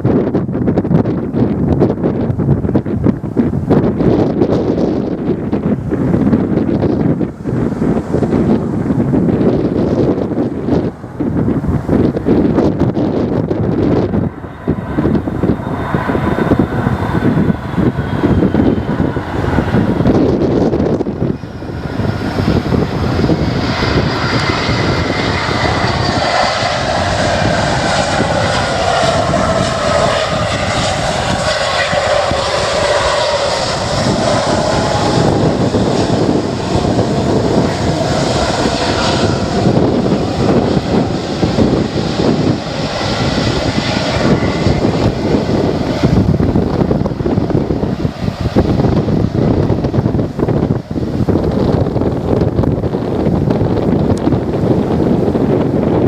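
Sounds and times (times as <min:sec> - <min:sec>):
distant aircraft engine whine: 0:00.0 - 0:56.0
wind buffeting microphone: 0:00.0 - 0:56.0.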